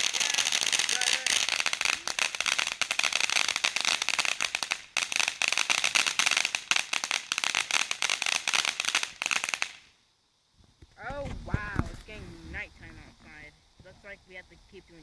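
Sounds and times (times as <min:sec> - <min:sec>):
fireworks crackling: 0:00.0 - 0:10.0, 0:10.6 - 0:15.0.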